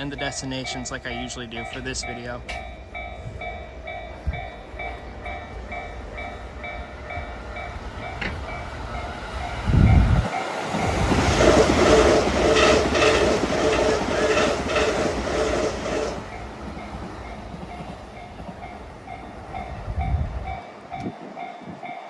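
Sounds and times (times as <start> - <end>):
train wheels clacking over joints: 0.0 - 21.2
electric train passing: 0.0 - 22.0.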